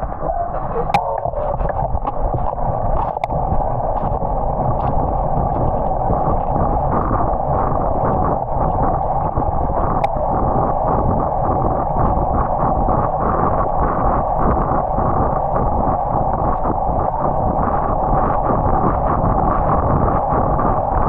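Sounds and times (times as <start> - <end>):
wind rush on microphone: 0.0 - 21.0.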